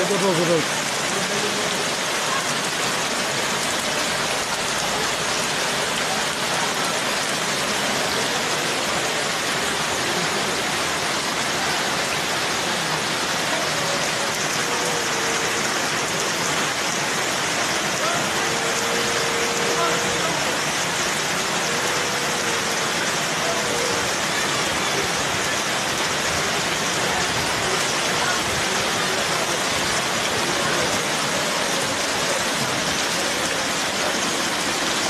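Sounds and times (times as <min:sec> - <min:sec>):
rain pouring on wet ground: 0:00.0 - 0:35.0.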